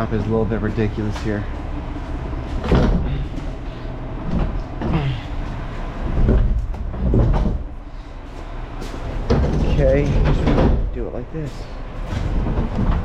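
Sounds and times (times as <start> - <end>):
garbage truck engine rumbling: 0.0 - 13.0
creaking and scraping of truck gear: 2.4 - 13.0.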